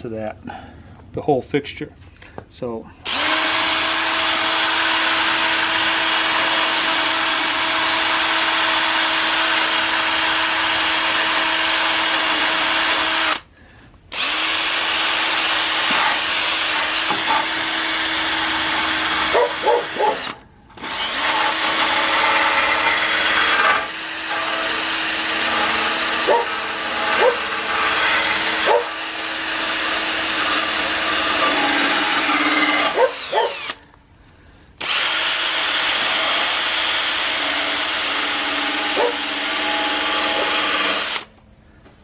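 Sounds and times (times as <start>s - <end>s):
power tool whining: 3.0s - 13.5s, 14.1s - 34.0s, 34.8s - 41.3s.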